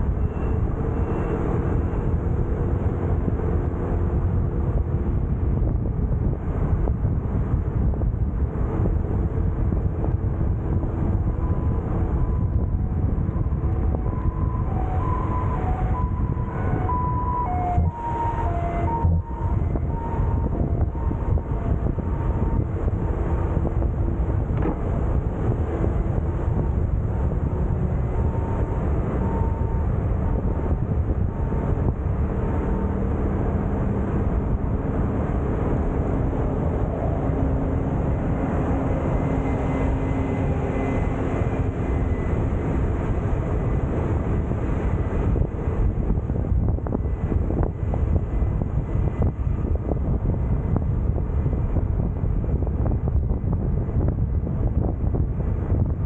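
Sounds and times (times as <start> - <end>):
bus passing: 0.0 - 56.0
wind buffeting microphone: 0.0 - 56.0.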